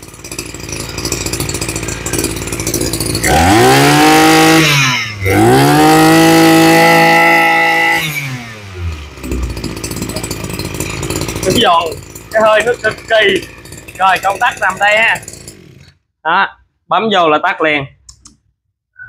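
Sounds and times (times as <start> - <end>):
brush cutter engine revving: 0.0 - 16.0.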